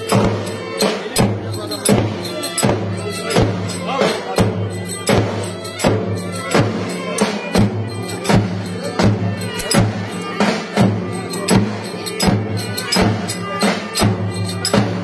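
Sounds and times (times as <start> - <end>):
bass drum struck in rhythm: 0.0 - 15.0.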